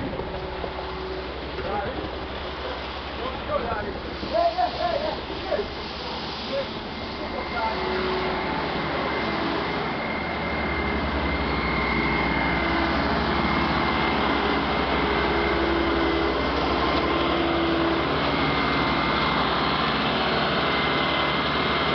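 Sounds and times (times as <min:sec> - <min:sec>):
concrete pump engine pulsing: 0:00.0 - 0:21.9
constant high whine: 0:00.0 - 0:21.9.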